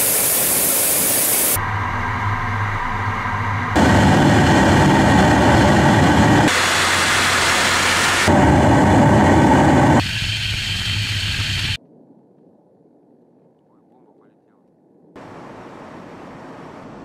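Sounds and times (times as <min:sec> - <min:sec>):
jet bomber in flight: 0:00.0 - 0:17.0.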